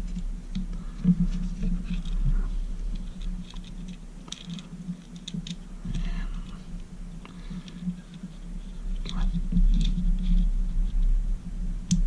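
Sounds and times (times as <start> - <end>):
steady low hum: 0.0 - 12.0
small plastic clicks and rustles: 0.1 - 11.1.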